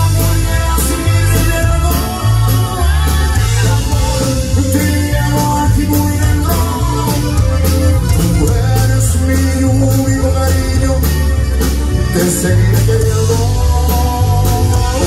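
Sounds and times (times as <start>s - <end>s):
button accordion: 0.0s - 15.0s
electric bass: 0.0s - 15.0s
man singing: 0.0s - 15.0s
steady drumbeat: 0.0s - 15.0s.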